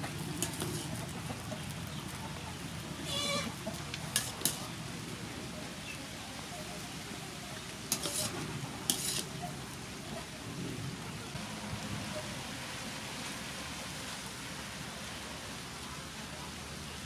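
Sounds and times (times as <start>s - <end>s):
water boiling in a wok: 0.0s - 17.0s.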